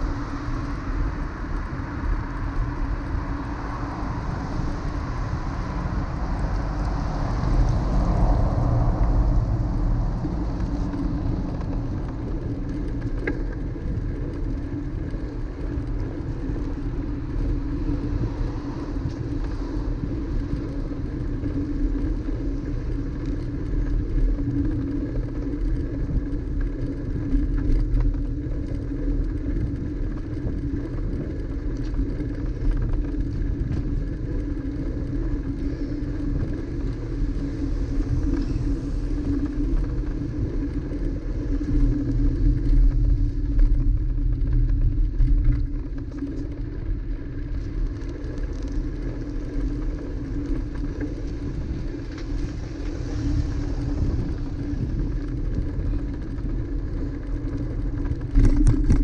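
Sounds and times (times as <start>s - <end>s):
low hum: 0.0s - 59.0s
tyre and road noise: 0.0s - 59.0s
wind rumble on microphone: 0.0s - 59.0s.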